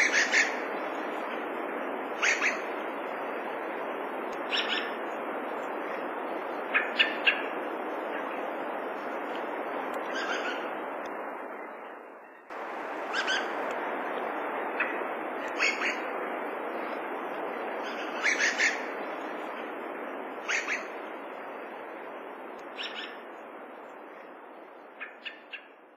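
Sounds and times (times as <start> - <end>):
background hiss: 0.0 - 25.9.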